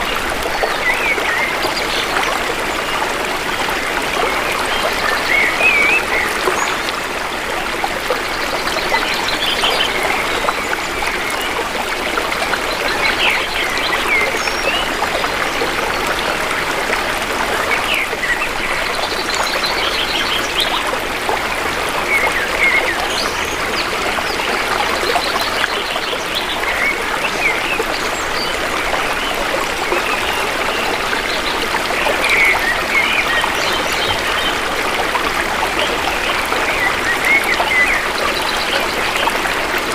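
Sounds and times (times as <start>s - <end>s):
stream burbling over rocks: 0.0s - 39.9s.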